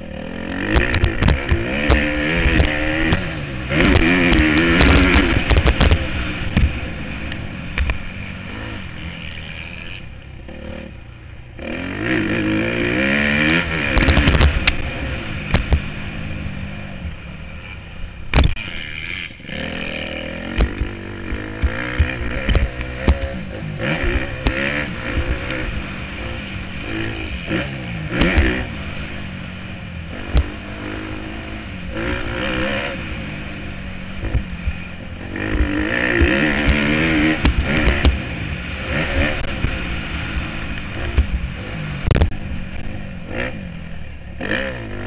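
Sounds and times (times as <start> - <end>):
motocross bike engine revving: 0.0 - 45.0.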